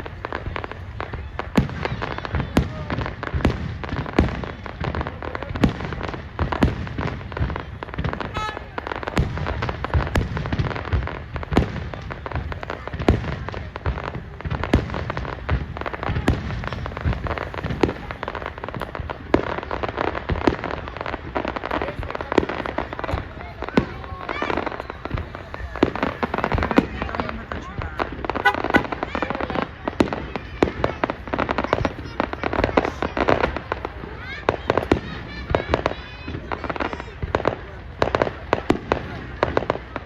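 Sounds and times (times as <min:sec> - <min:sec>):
fireworks bangs and booms: 0:00.0 - 0:40.0
fireworks rumble and crackle: 0:00.0 - 0:40.0.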